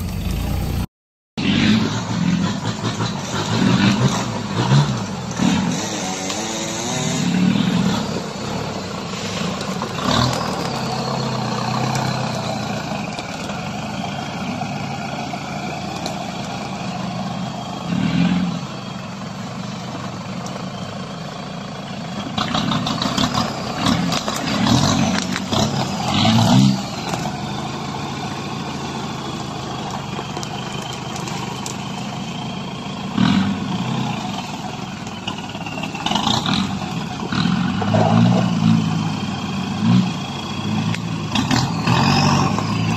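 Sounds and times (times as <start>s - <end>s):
truck engine revving: 0.0s - 42.9s.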